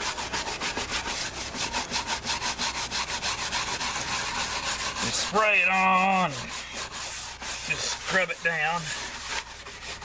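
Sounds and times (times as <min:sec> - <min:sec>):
stiff brush scrubbing a tire: 0:00.0 - 0:10.0.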